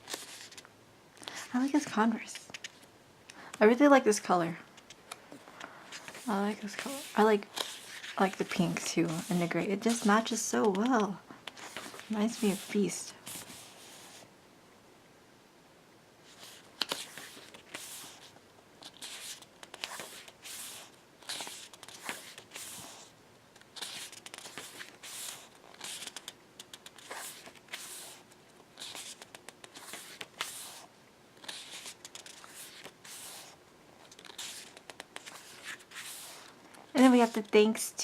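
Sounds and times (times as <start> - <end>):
paper pages turning: 0.0 - 2.9, 4.8 - 14.2, 16.3 - 37.6.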